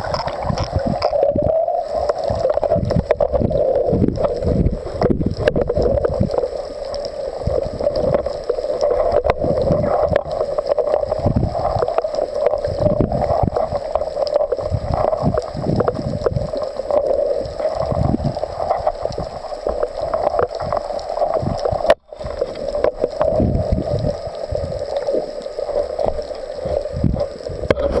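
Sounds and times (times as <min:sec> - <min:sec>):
muffled underwater water movement: 0:00.0 - 0:28.0.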